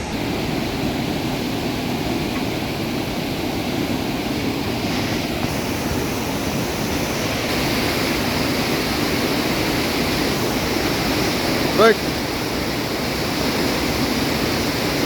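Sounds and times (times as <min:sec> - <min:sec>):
rushing white water: 0:00.0 - 0:15.0.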